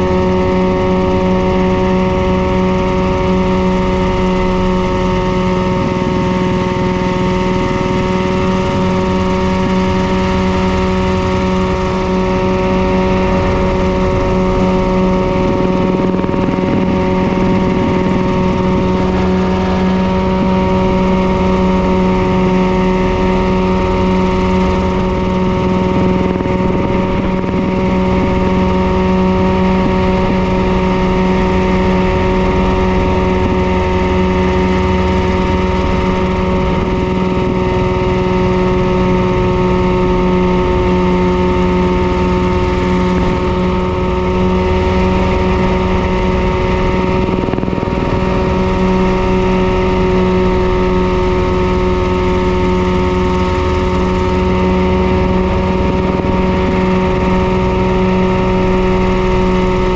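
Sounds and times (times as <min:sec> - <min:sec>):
helicopter engine and rotors: 0:00.0 - 0:59.9.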